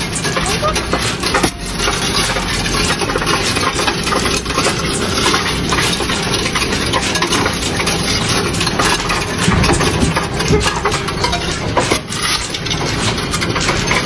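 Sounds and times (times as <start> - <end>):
coins clattering through machine: 0.0 - 14.0
machine motor running: 0.0 - 14.0.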